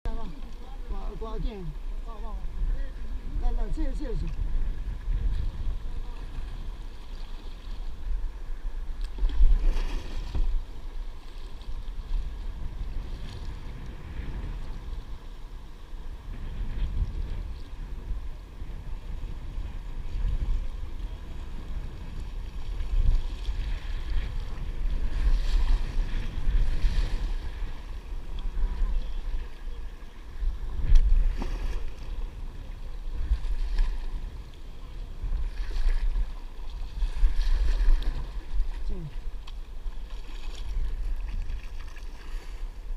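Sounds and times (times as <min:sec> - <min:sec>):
wind buffeting microphone: 0:00.0 - 0:42.9
water splashing and swishing: 0:00.1 - 0:42.9.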